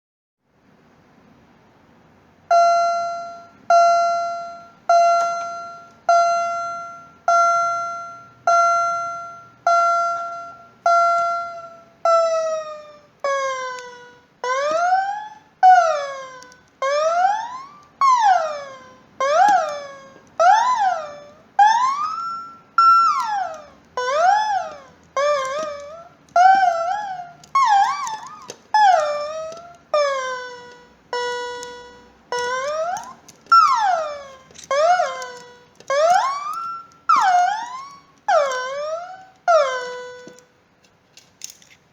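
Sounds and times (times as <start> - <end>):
fire alarm tone pulses: 2.5 - 40.5.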